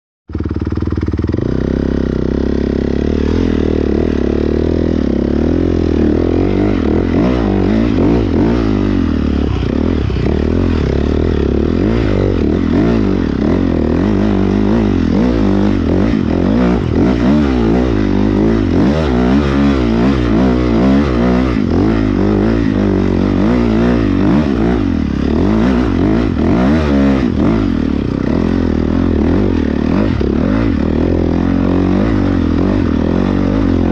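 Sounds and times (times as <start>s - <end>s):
motorcycle engines revving: 0.3s - 33.9s.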